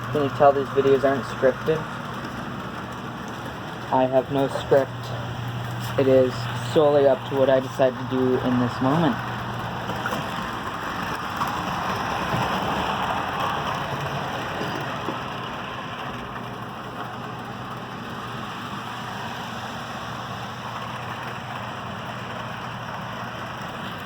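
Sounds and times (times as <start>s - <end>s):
locomotive motor hum: 0.0s - 24.0s
model train wheels rumbling: 0.0s - 24.0s.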